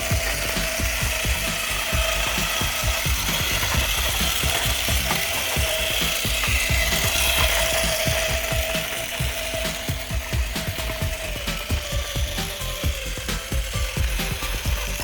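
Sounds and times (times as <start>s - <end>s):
electric gear motor whining: 0.0s - 15.0s
gear drive grinding: 0.0s - 15.0s
rapid low knocking: 0.0s - 15.0s.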